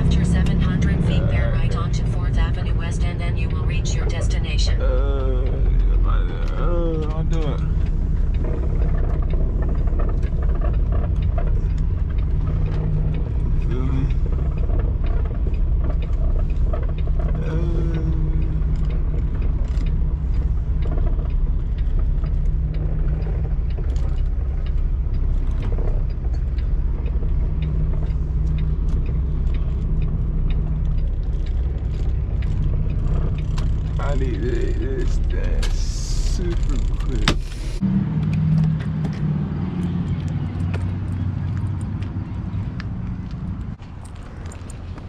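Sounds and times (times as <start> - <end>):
truck diesel engine running: 0.0 - 45.0
light clicks and rattles: 5.1 - 45.0.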